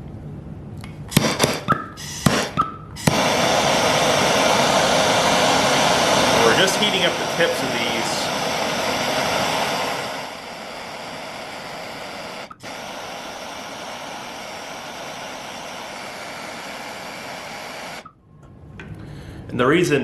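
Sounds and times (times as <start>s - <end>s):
gas torch flame hissing: 0.9s - 18.2s.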